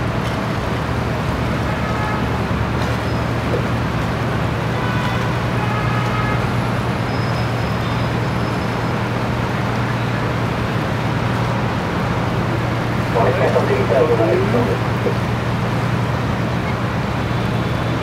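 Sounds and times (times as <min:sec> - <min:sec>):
water rushing: 0:00.0 - 0:17.2
boat engine droning: 0:00.0 - 0:18.0.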